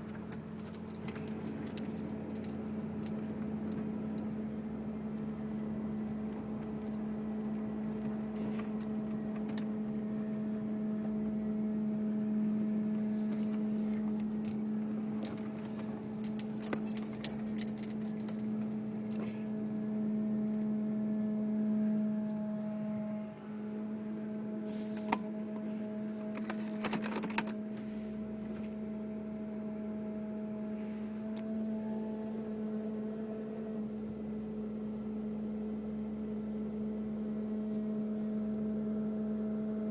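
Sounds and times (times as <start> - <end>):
steady hum from car engine: 0.0 - 39.9.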